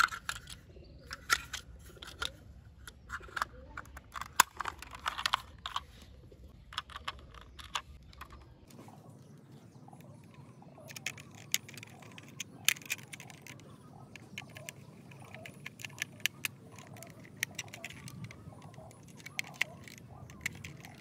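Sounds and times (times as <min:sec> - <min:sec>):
screwdriver and toy parts clicking: 0:00.0 - 0:08.7, 0:10.2 - 0:21.0.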